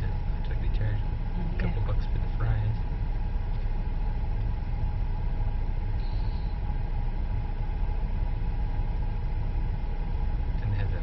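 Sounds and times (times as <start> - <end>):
car cabin low rumble: 0.0 - 11.0
faint steady hum: 0.0 - 11.0.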